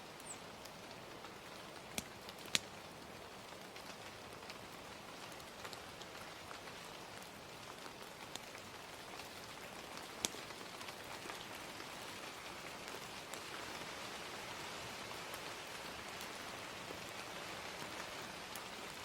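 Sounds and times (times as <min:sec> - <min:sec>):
gentle rain falling: 0:00.0 - 0:19.0
fire crackling and popping: 0:00.1 - 0:19.0.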